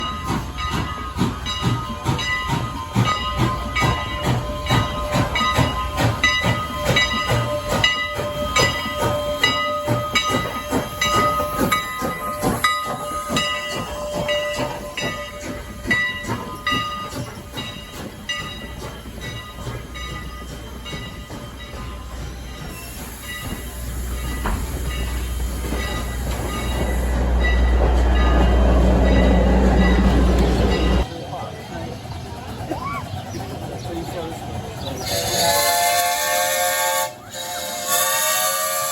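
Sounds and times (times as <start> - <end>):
steam hissing: 0.0 - 38.9
train clanking on rails: 0.0 - 38.9.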